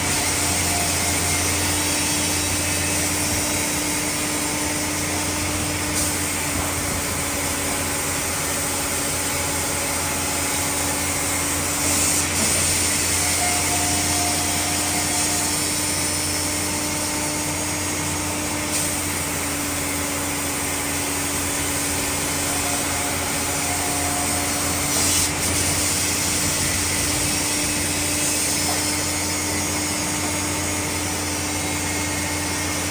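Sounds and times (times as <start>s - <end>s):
sawmill machinery running: 0.0s - 32.9s.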